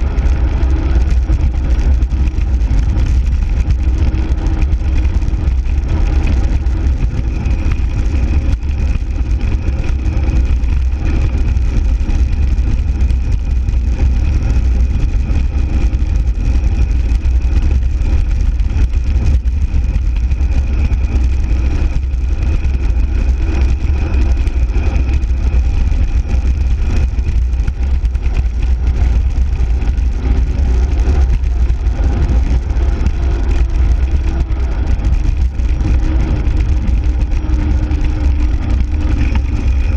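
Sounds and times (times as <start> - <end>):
bicycle tyres on rough asphalt: 0.0 - 39.9
wind buffeting microphone: 0.0 - 39.9.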